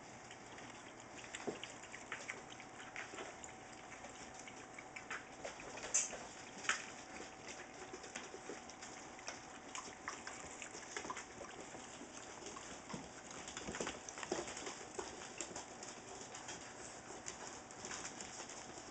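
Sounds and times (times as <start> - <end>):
soft puppy vocal sounds: 0.0 - 18.9
puppy claws clicking on hard floor: 0.3 - 18.9.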